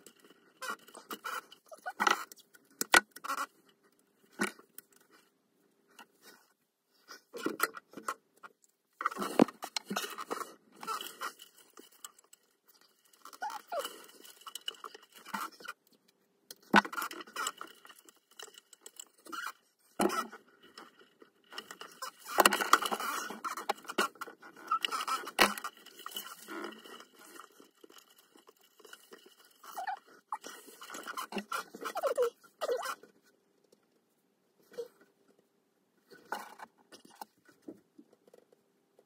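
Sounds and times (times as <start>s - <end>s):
cables rustling and scraping: 0.0s - 39.0s.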